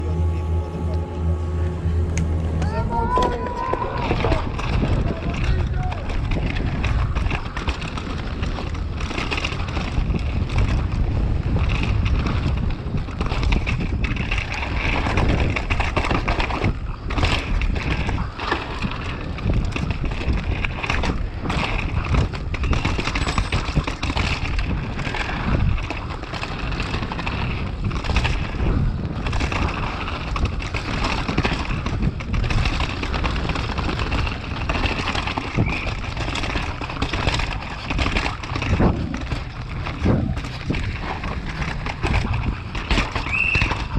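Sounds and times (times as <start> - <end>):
wind buffeting microphone: 0.0 - 43.9
bike clattering over bumps: 2.0 - 43.9
tyre noise on dirt and rock: 2.3 - 43.9.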